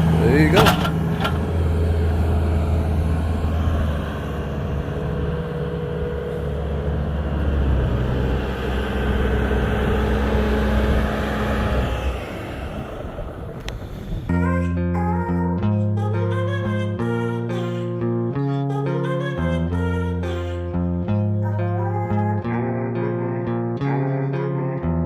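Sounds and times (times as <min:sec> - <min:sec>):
truck engine humming: 0:00.0 - 0:25.0.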